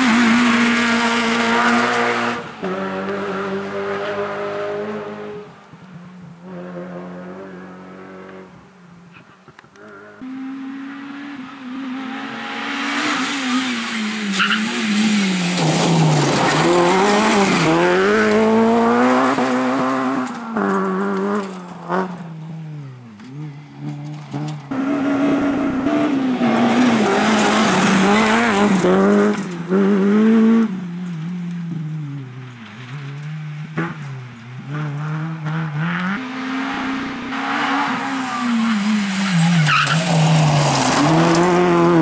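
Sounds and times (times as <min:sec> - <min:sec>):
rally car engine revving: 0:00.0 - 0:05.6, 0:09.2 - 0:42.0.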